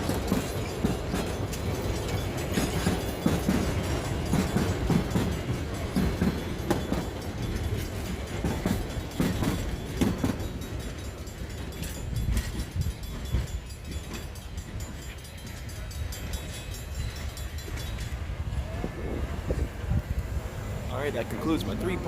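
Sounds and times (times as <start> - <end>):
low train rumble: 0.0 - 22.0
train wheels clacking on rails: 0.0 - 22.0.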